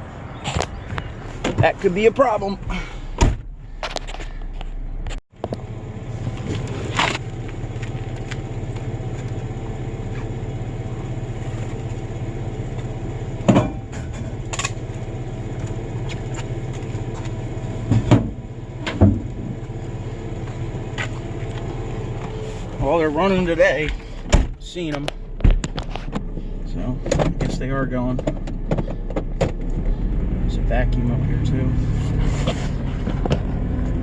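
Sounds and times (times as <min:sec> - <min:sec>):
truck engine and road noise: 0:00.0 - 0:34.0.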